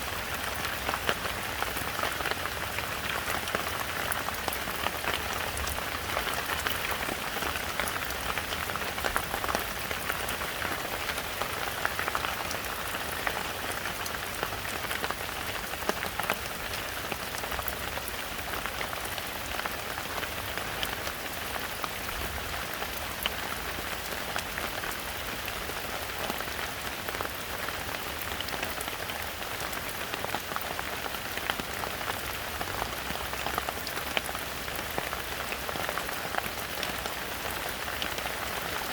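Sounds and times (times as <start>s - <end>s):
heavy rain in a forest: 0.0s - 38.9s.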